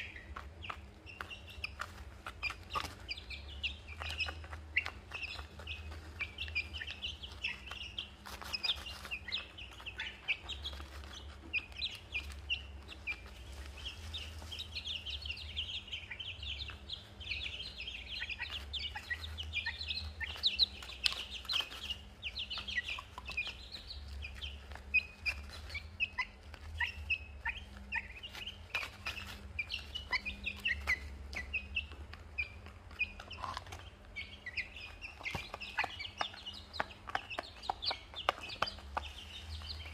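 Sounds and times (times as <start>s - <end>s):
chicks peeping and chirping: 0.0s - 39.9s
low steady hum: 0.0s - 39.9s.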